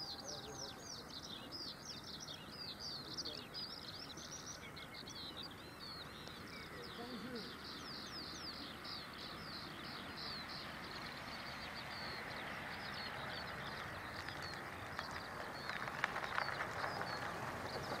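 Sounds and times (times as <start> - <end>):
small car approaching: 0.0 - 18.0.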